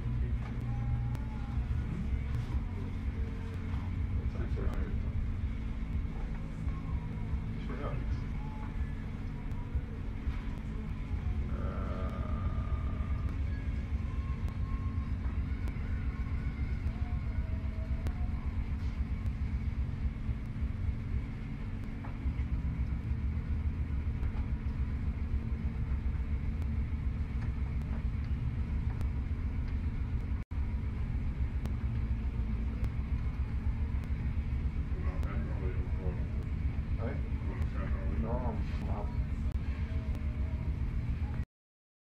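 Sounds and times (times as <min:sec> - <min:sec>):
faint hum: 0:00.0 - 0:41.4
low rumble: 0:00.0 - 0:41.4.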